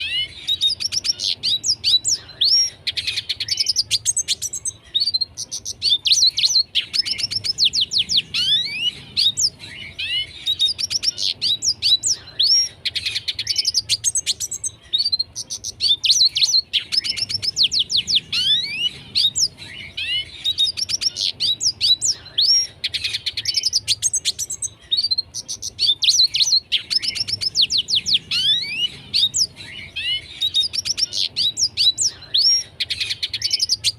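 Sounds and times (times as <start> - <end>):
bird twittering song: 0.0 - 33.9.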